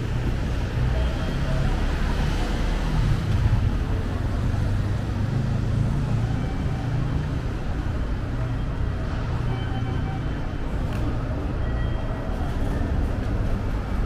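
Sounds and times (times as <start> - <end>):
street traffic engine hum: 0.0 - 14.0.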